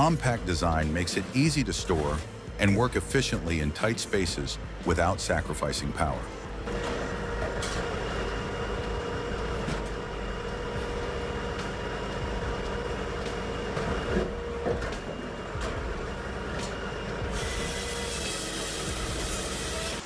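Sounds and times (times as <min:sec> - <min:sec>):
firewood processor drone: 0:00.0 - 0:20.0.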